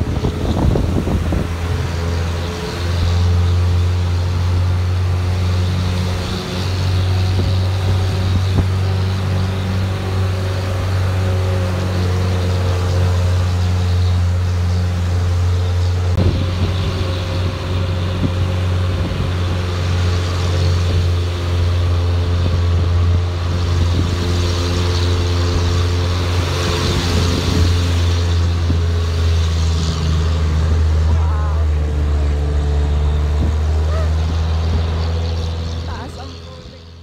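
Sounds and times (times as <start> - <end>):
steady rushing noise: 0.0 - 37.0
vehicle engine droning: 0.0 - 37.0.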